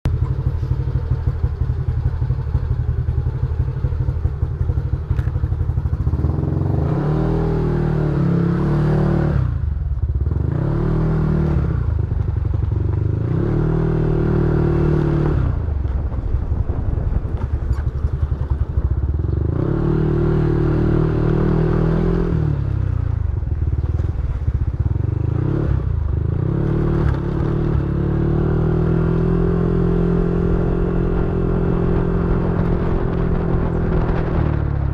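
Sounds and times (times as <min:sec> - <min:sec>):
scooter engine idling and revving: 0:00.0 - 0:34.9.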